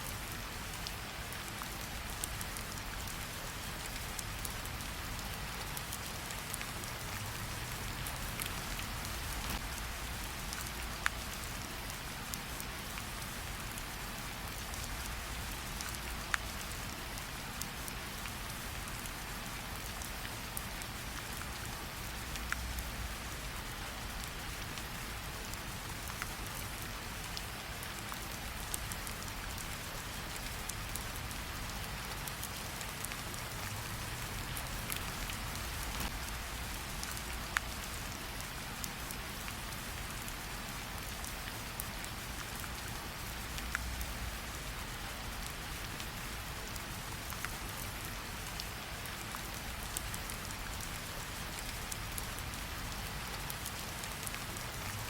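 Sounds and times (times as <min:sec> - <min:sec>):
steady rain hiss: 0:00.0 - 0:55.0
campfire crackles: 0:00.1 - 0:55.0.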